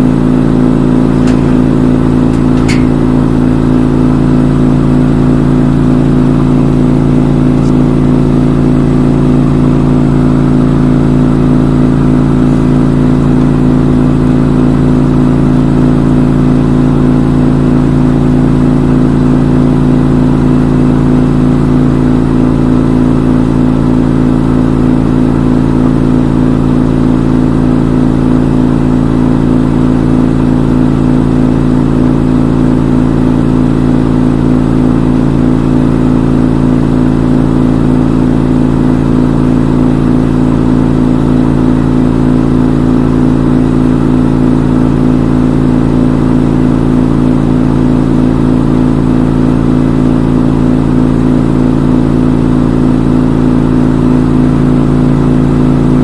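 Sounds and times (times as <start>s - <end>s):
washing machine spin cycle: 0.0s - 56.0s.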